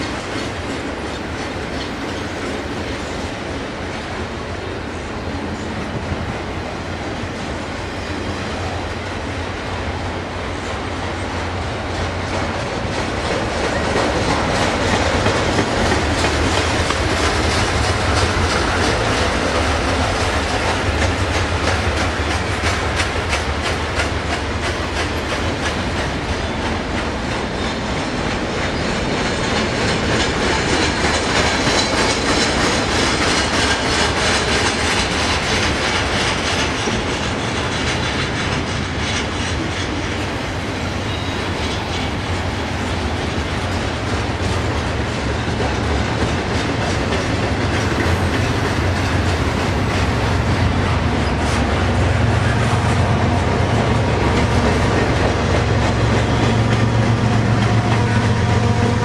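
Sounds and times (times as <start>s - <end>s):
train wheels clicking on rail joints: 0.0s - 59.0s.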